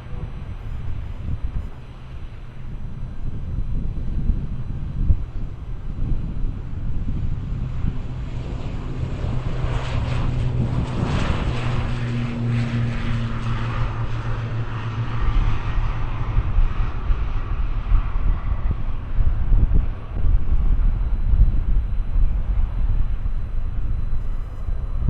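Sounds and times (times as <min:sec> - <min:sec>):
airliner engines roaring overhead: 0:00.0 - 0:25.0.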